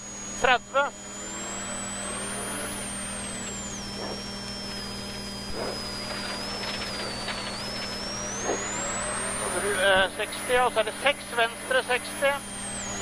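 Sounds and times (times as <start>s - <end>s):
car engine and drivetrain noise: 0.0s - 13.0s
high whine: 0.0s - 13.0s.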